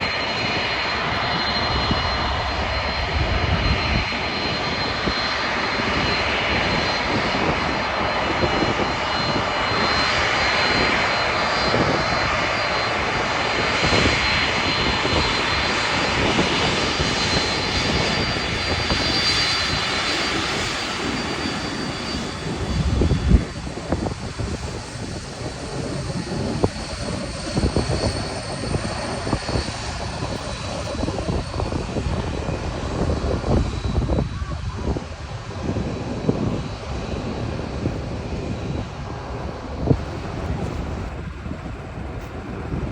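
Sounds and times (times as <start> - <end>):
high engine whine: 0.0 - 42.9
jet engines roaring: 0.0 - 42.9.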